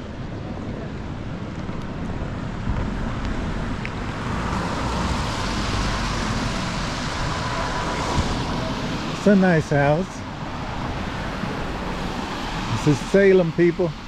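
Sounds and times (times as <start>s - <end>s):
wind rumbling on microphone: 0.0s - 13.2s
car passing: 2.3s - 14.0s.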